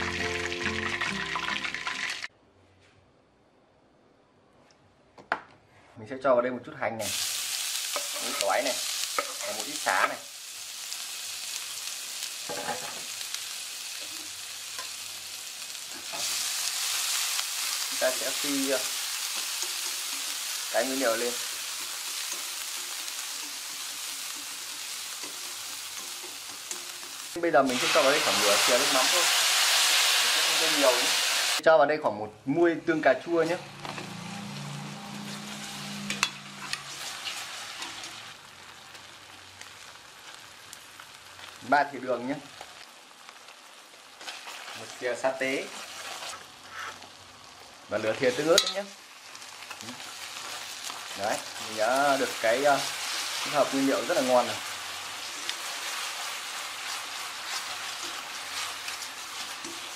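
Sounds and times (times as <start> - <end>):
vegetables sizzling in hot oil: 7.0 - 31.6, 33.3 - 59.9.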